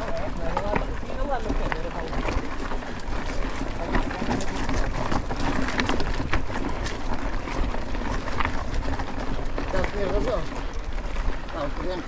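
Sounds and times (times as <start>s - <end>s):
bike clicks and rattles: 0.0s - 12.0s
bike tyres rolling on gravel: 0.0s - 12.0s
stones crunching: 0.0s - 12.0s.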